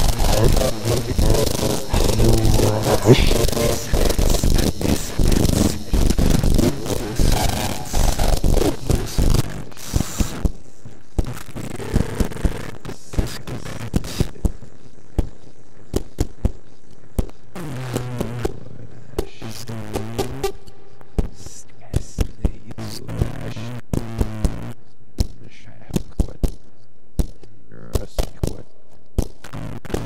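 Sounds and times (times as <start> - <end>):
low hiss: 0.0 - 30.0.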